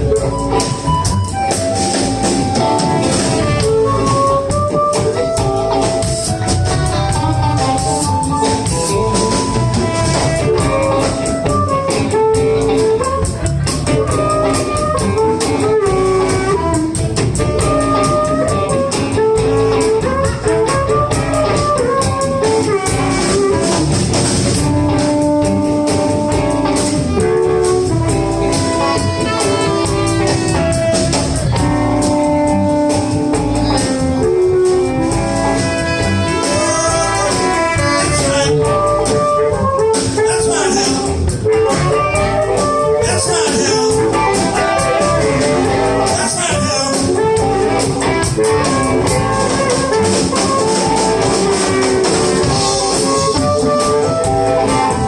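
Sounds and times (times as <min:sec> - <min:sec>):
blues band playing instrumental: 0:00.0 - 0:55.0
lead guitar bending notes: 0:00.0 - 0:55.0.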